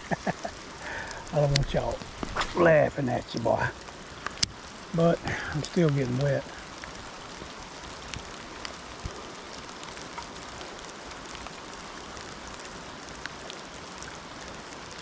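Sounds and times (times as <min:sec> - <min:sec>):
light rain falling: 0:00.0 - 0:15.0
raindrops ticking: 0:00.0 - 0:15.0.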